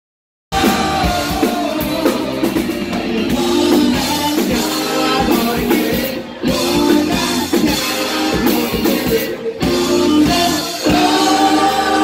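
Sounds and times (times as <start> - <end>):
drum kit: 0.5 - 12.0
guitar: 0.5 - 12.0
man singing: 0.5 - 12.0.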